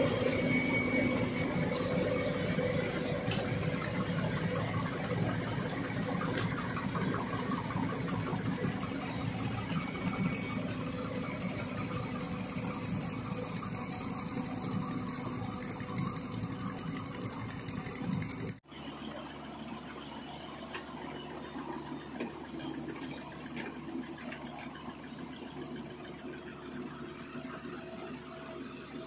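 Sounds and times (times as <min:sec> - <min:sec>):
excavator running: 0:00.0 - 0:29.0
steady quieter engine: 0:00.0 - 0:29.0
tractor engine running: 0:00.0 - 0:29.0.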